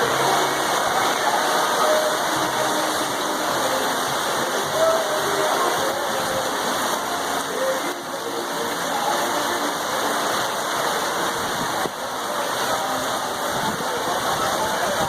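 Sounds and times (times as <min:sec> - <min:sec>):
faint voices: 0:00.0 - 0:15.0
rain falling: 0:00.0 - 0:15.0.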